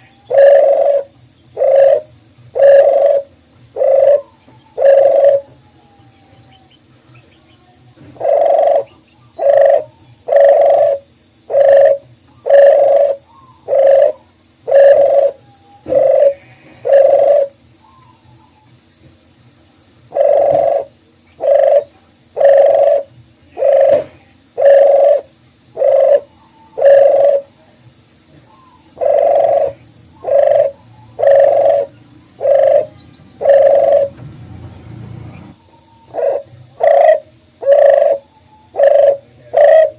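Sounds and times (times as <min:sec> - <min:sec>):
dove cooing: 0:00.0 - 0:06.8, 0:07.9 - 0:18.6, 0:20.1 - 0:27.6, 0:28.4 - 0:39.9.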